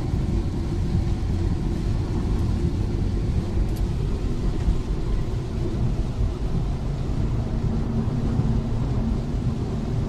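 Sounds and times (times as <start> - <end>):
heavy rain on car: 0.0 - 10.0.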